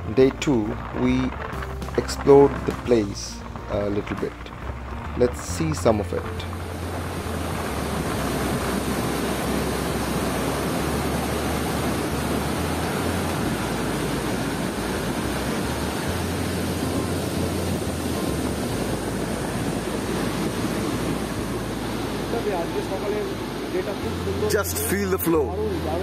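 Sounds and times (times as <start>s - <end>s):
floodwater rushing through sluice gates: 0.0s - 26.0s.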